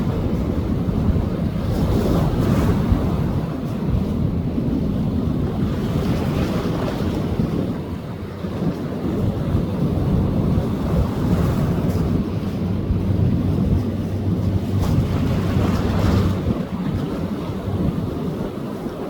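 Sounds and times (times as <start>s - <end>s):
sea waves breaking on beach: 0.0s - 19.0s
wind rumble on microphone: 0.0s - 19.0s.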